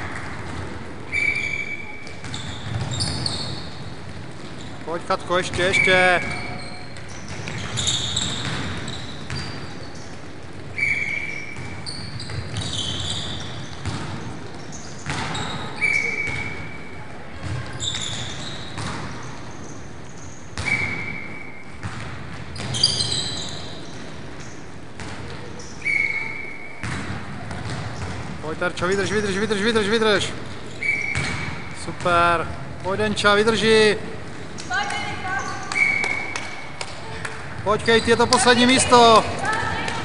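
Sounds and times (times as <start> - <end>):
shoes squeaking on hall floor: 0.0 - 40.0.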